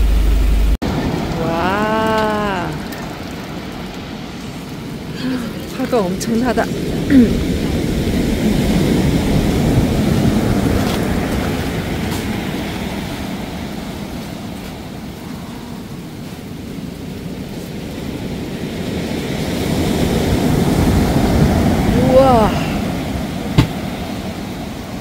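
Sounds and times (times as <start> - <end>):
surf breaking on beach: 0.0 - 25.0.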